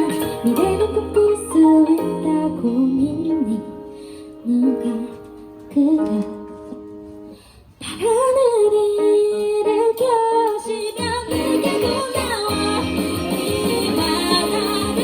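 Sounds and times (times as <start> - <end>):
pop song: 0.0 - 6.8, 7.8 - 15.0.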